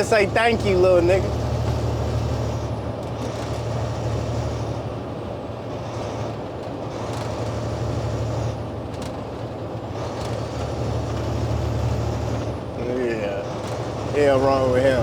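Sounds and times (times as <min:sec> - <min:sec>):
road and wind noise: 0:00.0 - 0:15.0
truck engine drone: 0:00.0 - 0:15.0.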